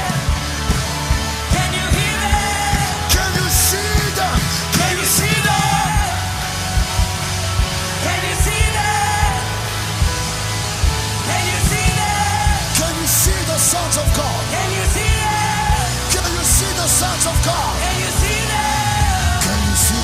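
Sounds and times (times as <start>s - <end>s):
bass: 0.0s - 20.0s
drums: 0.0s - 20.0s
keyboard chords: 0.0s - 20.0s
voices singing wordless lines: 0.0s - 20.0s.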